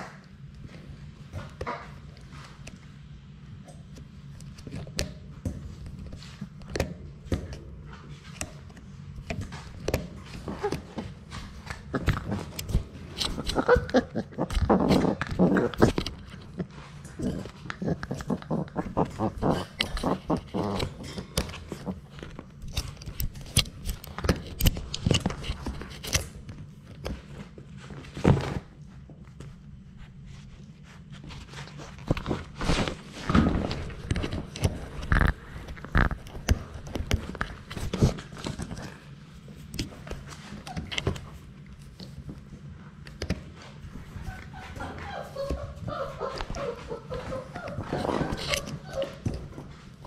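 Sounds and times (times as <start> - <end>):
puppy teeth crunching on camera: 3.6 - 28.6, 30.8 - 50.0.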